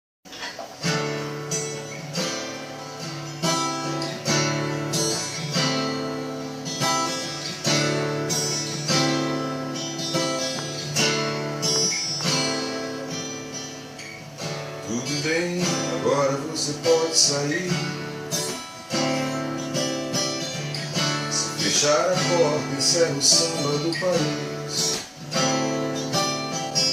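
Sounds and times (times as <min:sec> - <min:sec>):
acoustic guitar strumming chords: 0:00.3 - 0:26.9.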